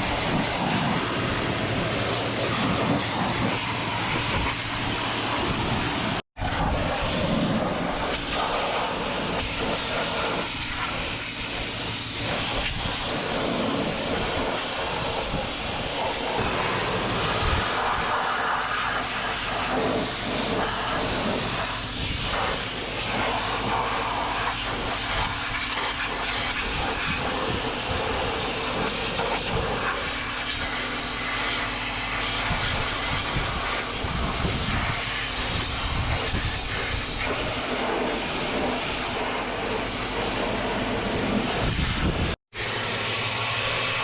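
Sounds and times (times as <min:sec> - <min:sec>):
pressure washer water hissing: 0:00.0 - 0:44.0.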